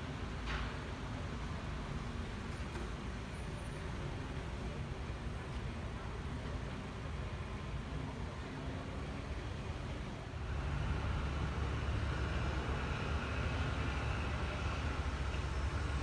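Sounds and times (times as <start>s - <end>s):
city hiss: 0.0s - 16.0s
car engines rumbling: 0.1s - 16.0s.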